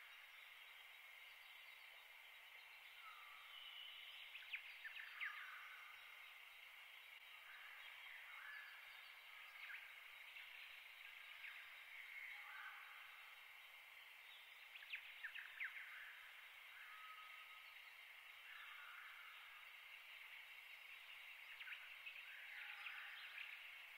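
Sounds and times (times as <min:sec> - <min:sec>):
distant small birds chirping: 0:00.0 - 0:23.9
steady high hiss: 0:00.0 - 0:23.9.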